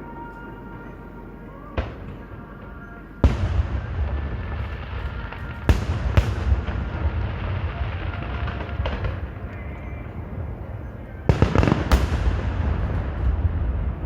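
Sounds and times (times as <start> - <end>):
low rumble with crackling: 0.6 - 14.0
fireworks bursting: 1.6 - 14.0.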